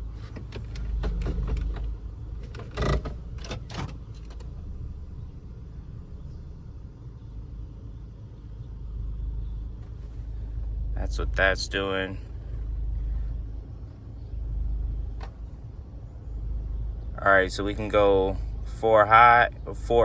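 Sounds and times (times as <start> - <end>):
low drivetrain rumble: 0.0 - 20.0.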